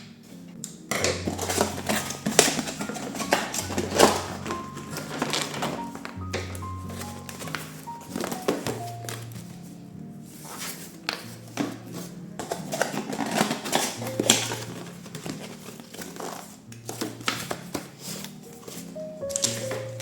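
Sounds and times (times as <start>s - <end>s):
objects rustling and crinkling: 0.0s - 20.0s
soft background music: 0.0s - 20.0s.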